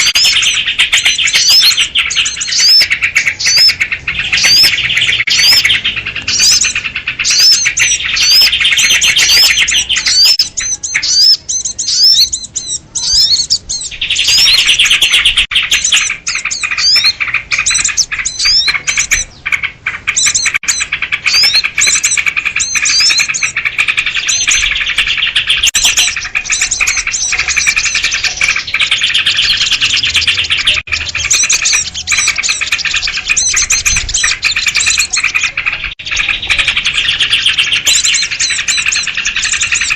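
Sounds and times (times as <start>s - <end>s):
bulbuls chattering and whistling: 0.0s - 39.9s.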